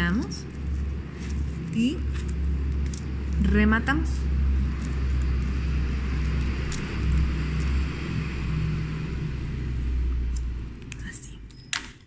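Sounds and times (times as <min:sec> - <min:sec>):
vehicle engine rumbling: 0:00.0 - 0:11.6.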